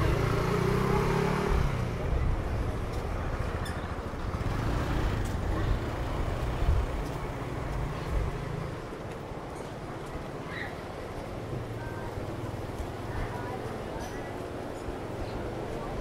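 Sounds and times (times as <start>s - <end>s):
street noise: 0.0s - 16.0s
faint voices: 0.8s - 16.0s.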